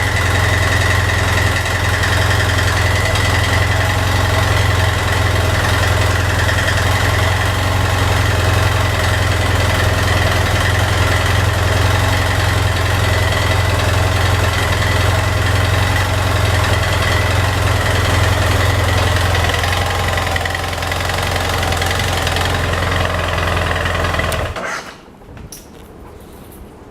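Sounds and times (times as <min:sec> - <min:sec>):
motorcycle engine idling: 0:00.0 - 0:24.6.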